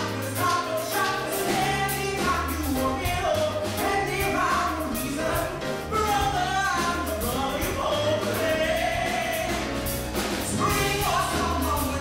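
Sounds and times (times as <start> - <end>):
live band playing: 0.0 - 12.0
man singing into microphone: 0.0 - 12.0.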